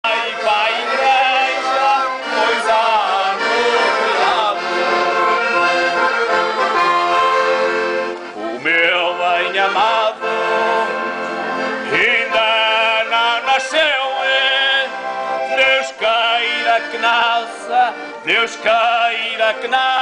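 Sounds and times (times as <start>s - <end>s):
man singing loudly: 0.0s - 5.9s, 8.4s - 10.9s, 11.9s - 20.0s
accordion playing folk tune: 0.0s - 20.0s.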